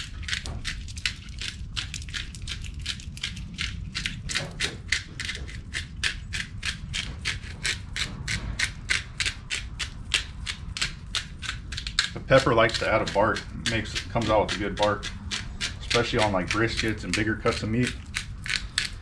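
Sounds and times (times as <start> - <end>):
pepper mill grinding: 0.0 - 19.0.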